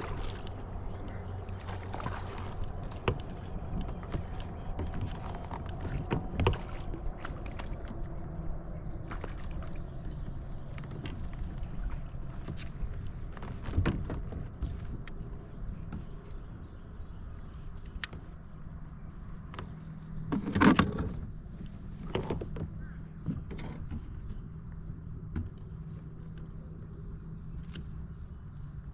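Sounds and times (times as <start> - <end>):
steady low rumble: 0.0 - 20.4, 21.0 - 28.9.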